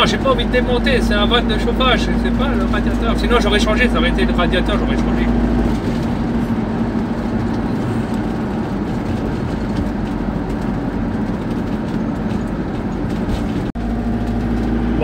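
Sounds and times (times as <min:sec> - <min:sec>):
van engine and road drone: 0:00.0 - 0:15.0.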